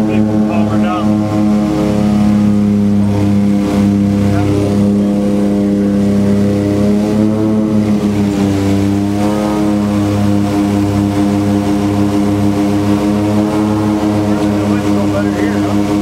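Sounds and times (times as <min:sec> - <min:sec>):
turboprop cabin drone: 0:00.0 - 0:16.0.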